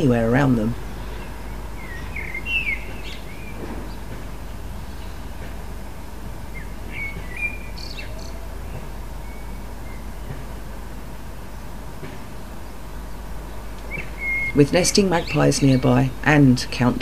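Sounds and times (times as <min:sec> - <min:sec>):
small birds chirping: 0:00.0 - 0:05.8, 0:06.4 - 0:17.0
low background hum: 0:00.0 - 0:17.0.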